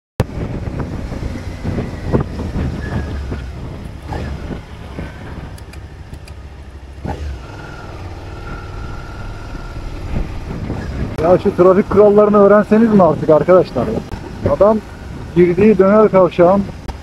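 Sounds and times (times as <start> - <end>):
motorcycle engine rumbling: 0.2 - 17.0
wind buffeting on microphone: 0.2 - 17.0.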